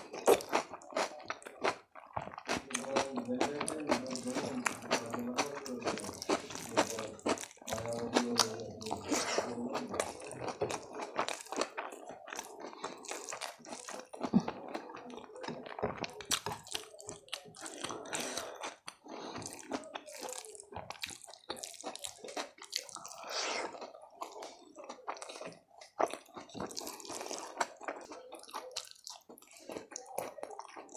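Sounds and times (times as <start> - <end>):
wet chewing and mouth sounds: 0.0 - 30.9.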